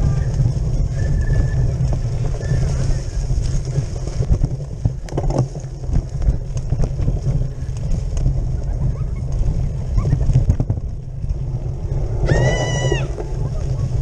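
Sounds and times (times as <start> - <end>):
bicycle rattling clicks and knocks: 0.0 - 12.2
wind and vibration rumble: 0.0 - 14.0.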